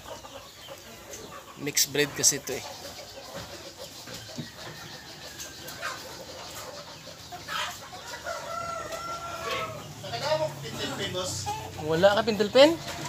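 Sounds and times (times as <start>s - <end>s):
chicken sharp calls: 0.0s - 13.0s
chickens clucking: 0.0s - 13.0s.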